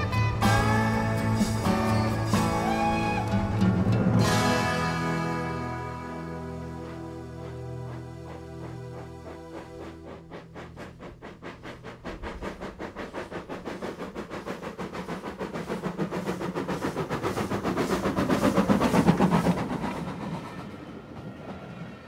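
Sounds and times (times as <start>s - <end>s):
steam locomotive exhaust beating: 0.0s - 22.0s.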